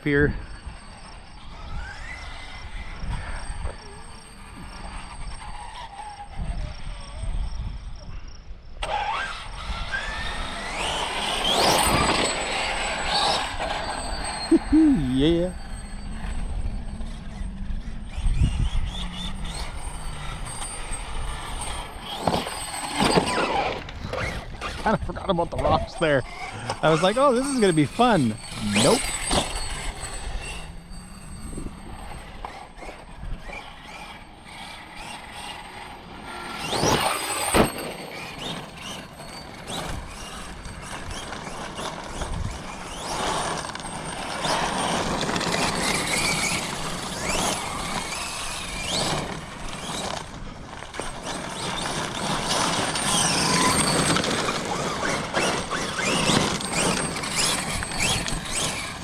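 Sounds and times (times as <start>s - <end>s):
electric toy truck motor whine: 0.0s - 59.0s.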